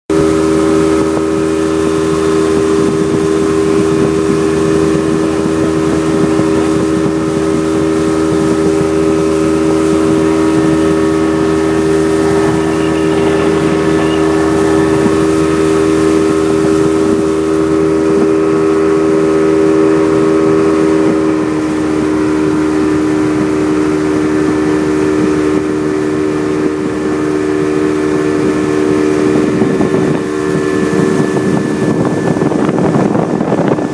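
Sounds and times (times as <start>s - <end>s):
motorboat engine droning: 0.1s - 33.9s.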